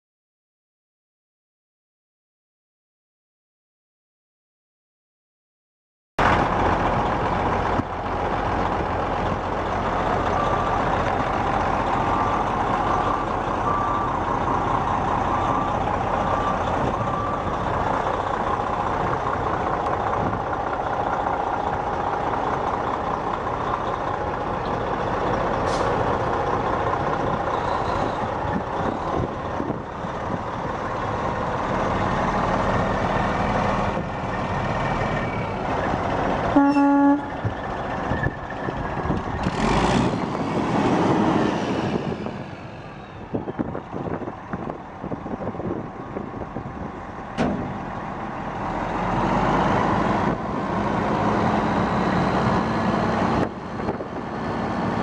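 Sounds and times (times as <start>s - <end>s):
diesel truck engine running: 6.2s - 55.0s.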